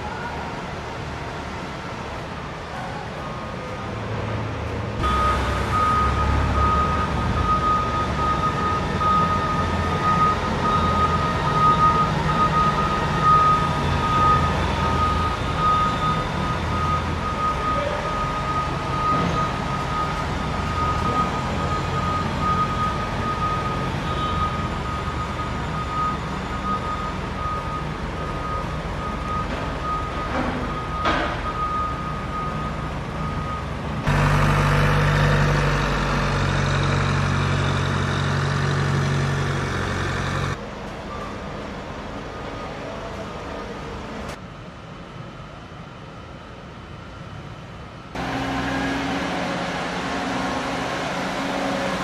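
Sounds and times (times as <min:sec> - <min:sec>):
forklift engine running: 0:00.4 - 0:41.2, 0:48.1 - 0:52.0.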